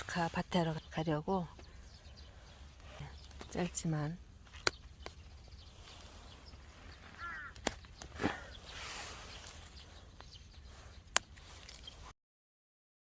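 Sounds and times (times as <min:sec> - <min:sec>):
bird chirp: 0:00.0 - 0:12.1.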